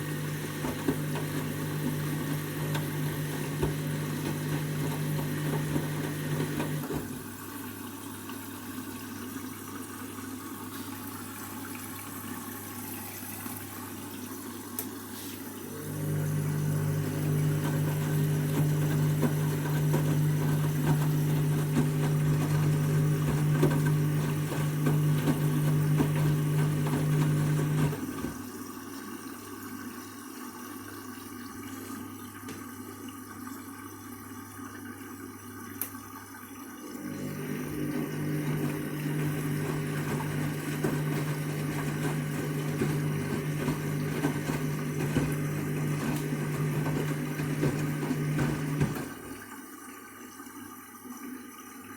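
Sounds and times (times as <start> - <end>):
water moving in washing machine: 0.0 - 29.2, 36.2 - 51.9
washing machine pump hum: 0.0 - 51.9.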